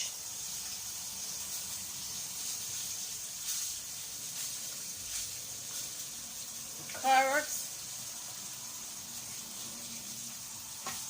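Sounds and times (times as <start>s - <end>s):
high background hiss: 0.0s - 11.0s.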